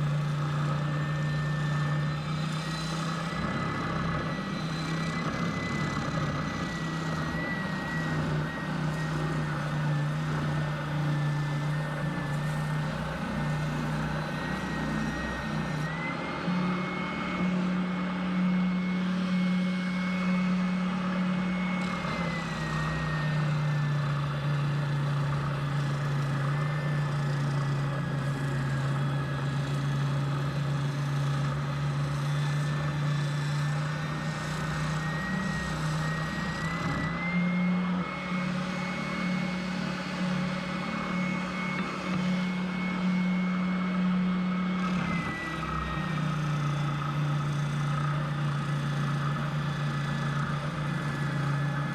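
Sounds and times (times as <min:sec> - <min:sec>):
electric router motor cutting: 0:00.0 - 0:51.9.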